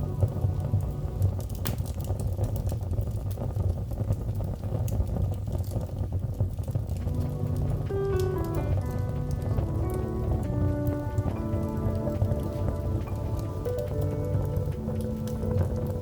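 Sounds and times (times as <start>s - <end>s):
fire crackling in a fireplace: 0.0s - 16.0s.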